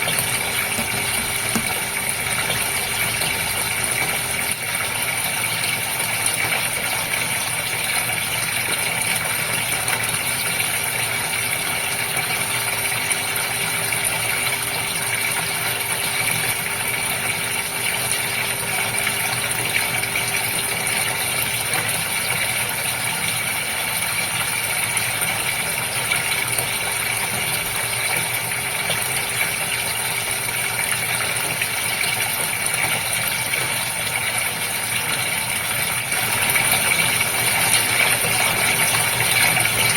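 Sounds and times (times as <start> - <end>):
water flowing and splashing: 0.0 - 39.9.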